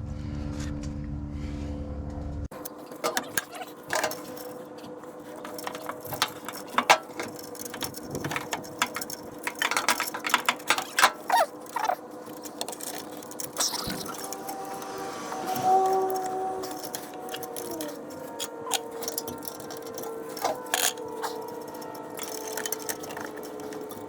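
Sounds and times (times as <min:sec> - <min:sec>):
metal tools clinking and rattling: 0:02.5 - 0:24.0
short squeaks: 0:02.6 - 0:24.0.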